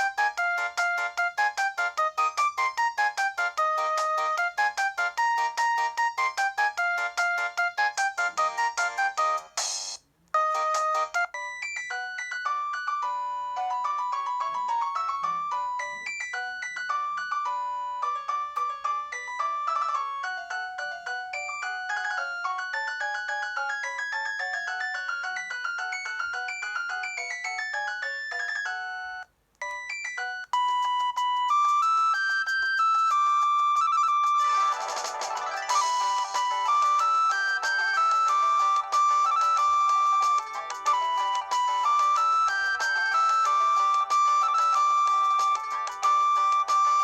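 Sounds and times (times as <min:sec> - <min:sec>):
electronic ringtone melody: 0:00.0 - 0:09.7, 0:10.4 - 0:47.0
ringtone of repeated tones: 0:00.0 - 0:47.0.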